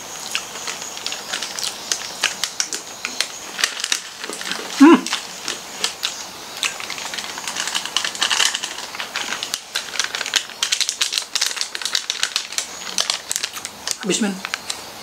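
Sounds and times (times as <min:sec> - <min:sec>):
plastic packet crinkling: 0:00.1 - 0:14.8
cereal balls rattling into palm: 0:00.3 - 0:14.8.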